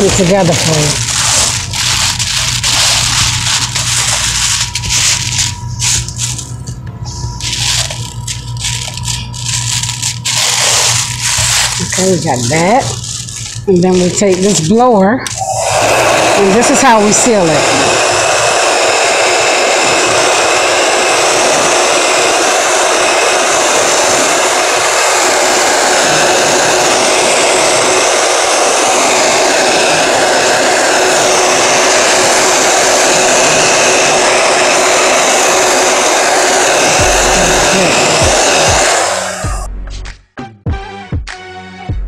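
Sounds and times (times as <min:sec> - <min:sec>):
heat gun blowing air: 0:00.0 - 0:06.5, 0:07.1 - 0:39.6.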